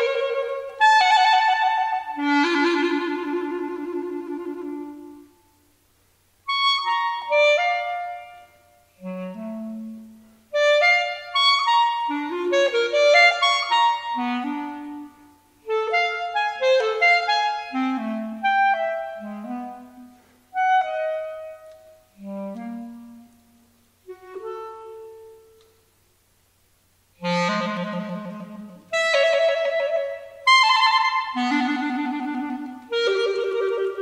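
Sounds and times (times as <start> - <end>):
solo clarinet playing: 0.0 - 5.6, 6.4 - 25.8, 27.2 - 34.0.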